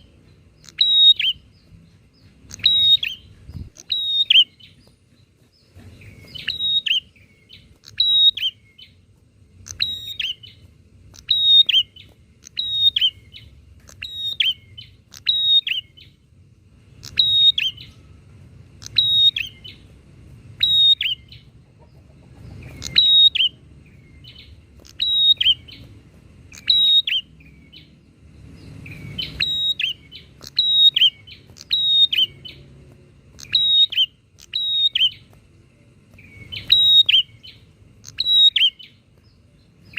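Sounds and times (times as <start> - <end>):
bird chirping phrases: 0.0 - 39.9.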